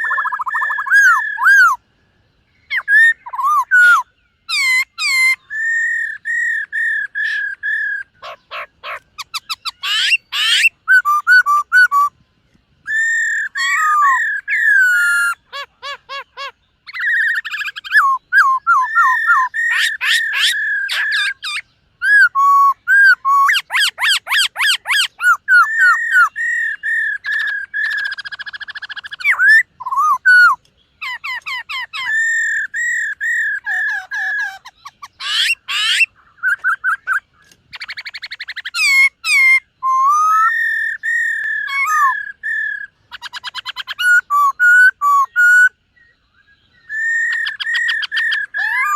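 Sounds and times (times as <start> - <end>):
bird singing loud whistles: 0.0 - 1.8, 2.7 - 12.2, 12.8 - 48.9.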